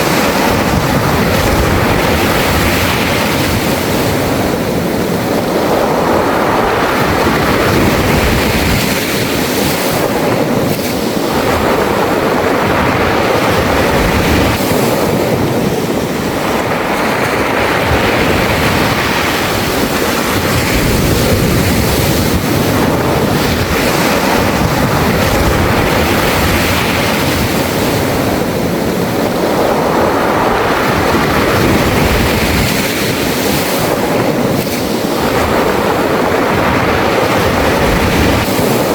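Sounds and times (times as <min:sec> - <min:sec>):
waves washing over pebbles: 0:00.0 - 0:38.9.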